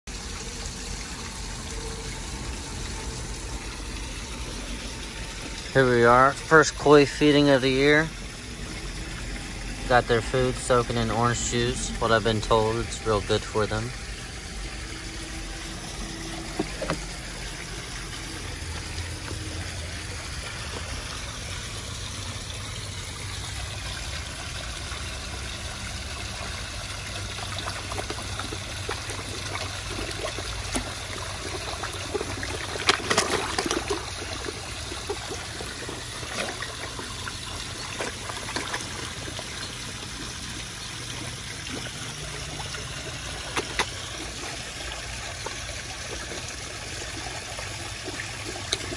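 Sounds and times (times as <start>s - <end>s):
water trickling: 0.1s - 48.9s
fish splashing at surface: 6.7s - 48.9s.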